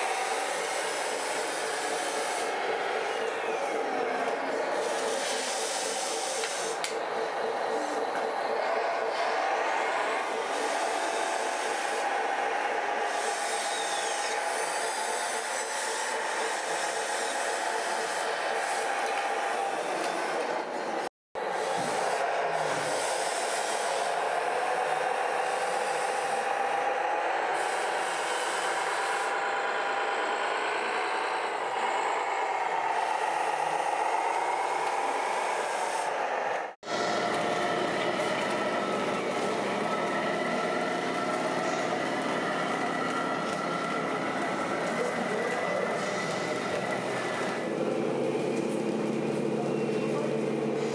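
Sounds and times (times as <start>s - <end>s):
small motors and gearboxes running: 0.0s - 26.8s, 27.5s - 50.9s.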